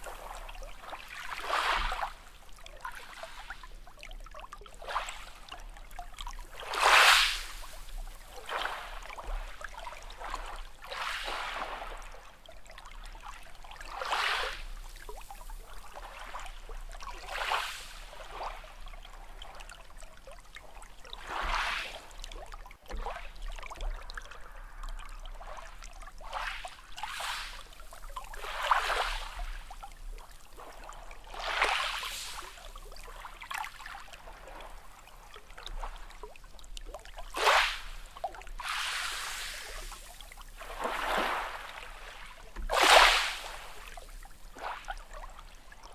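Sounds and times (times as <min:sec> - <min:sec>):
small sea waves lapping: 0:00.0 - 0:45.9.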